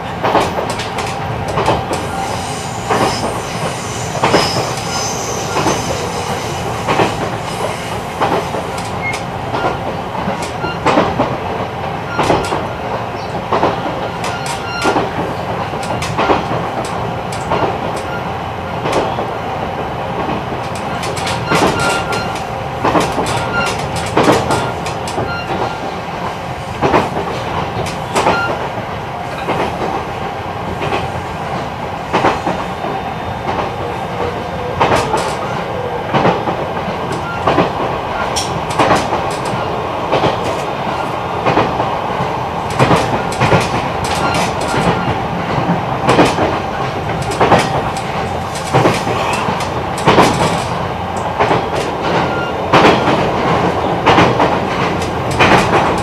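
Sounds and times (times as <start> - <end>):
train rolling noise: 0.0 - 56.0
wheels clicking over rail joints: 0.1 - 30.0, 30.8 - 56.0.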